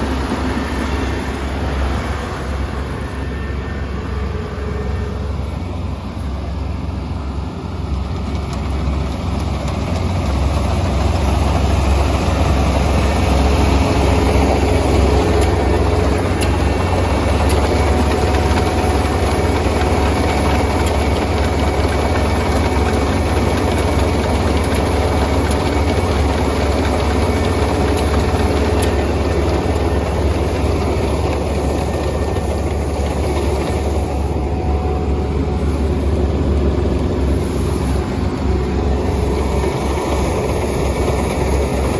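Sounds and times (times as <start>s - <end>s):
combine harvester diesel engine: 0.0s - 41.9s.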